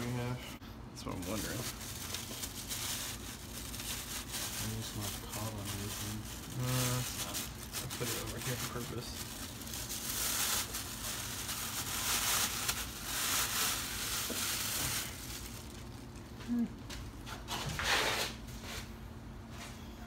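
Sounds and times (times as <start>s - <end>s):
plastic bag crinkling and rustling: 1.0s - 17.3s.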